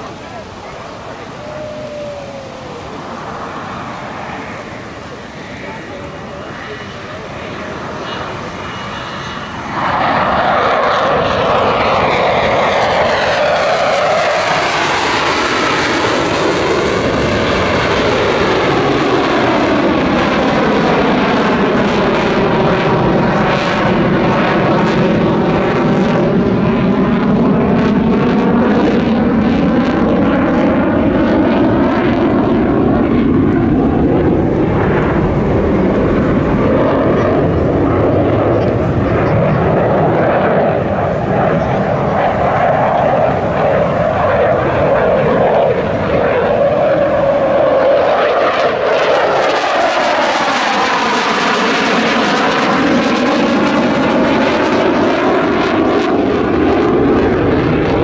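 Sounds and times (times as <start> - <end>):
fighter jet flying past: 0.0 - 58.0.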